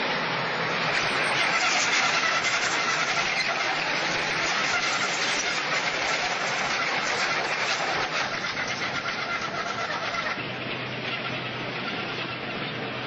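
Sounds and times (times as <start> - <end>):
tracked vehicle engine and track rumble: 0.0 - 13.0.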